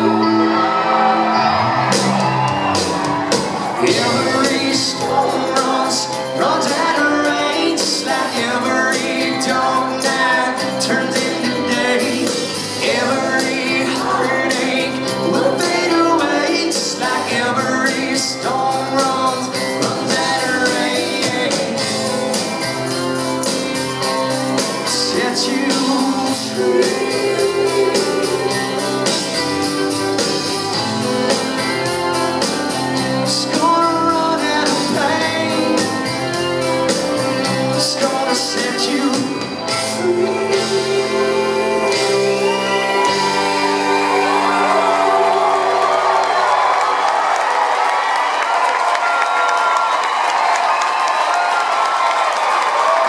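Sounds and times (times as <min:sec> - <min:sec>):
live country band playing: 0:00.0 - 0:53.0
drums and cymbals: 0:01.8 - 0:44.9
person singing: 0:03.6 - 0:47.1.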